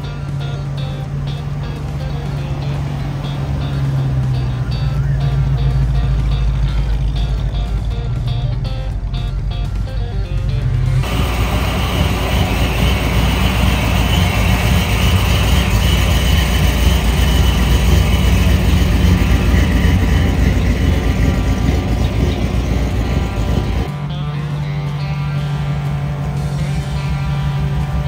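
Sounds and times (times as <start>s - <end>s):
music: 0.0s - 11.1s, 13.0s - 28.0s
car engine rumble: 0.0s - 28.0s.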